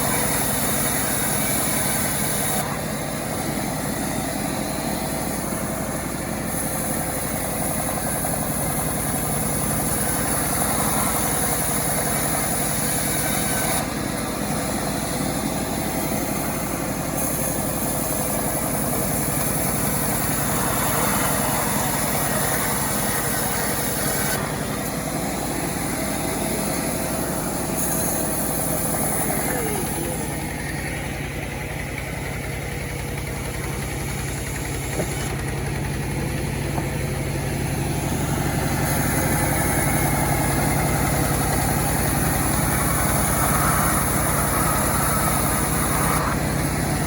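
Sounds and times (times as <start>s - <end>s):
chainsaw engine running: 0.0s - 47.0s.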